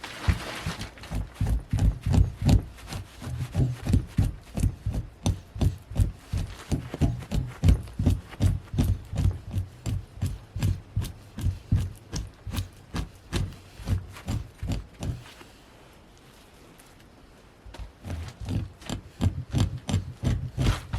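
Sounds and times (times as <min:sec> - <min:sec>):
hand tool scraping a hide: 0:00.0 - 0:15.7, 0:17.8 - 0:20.9.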